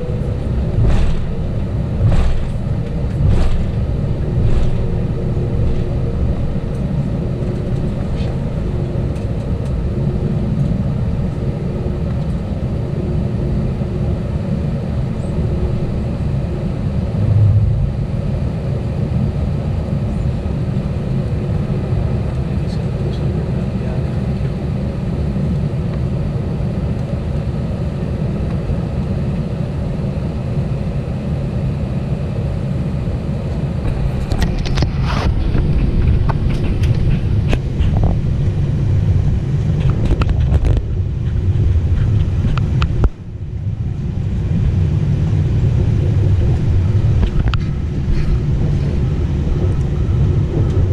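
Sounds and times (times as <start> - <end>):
aircraft cabin engine rumble: 0.0 - 50.9.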